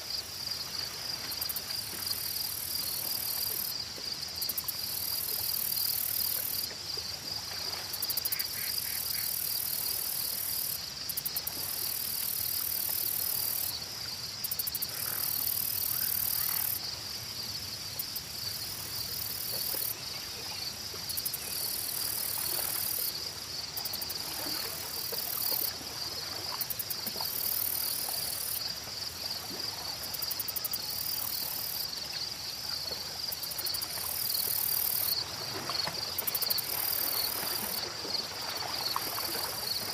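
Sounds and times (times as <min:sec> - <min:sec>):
insects trilling: 0:00.4 - 0:39.9.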